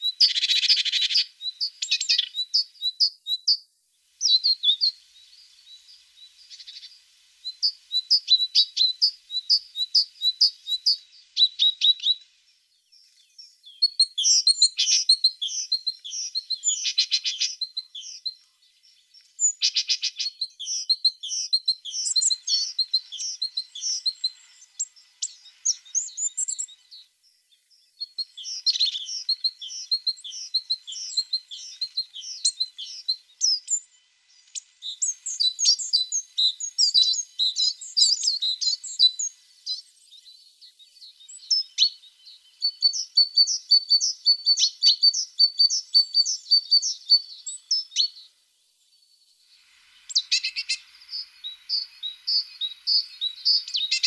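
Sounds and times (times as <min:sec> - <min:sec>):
tits singing and calling: 0:00.0 - 0:54.0.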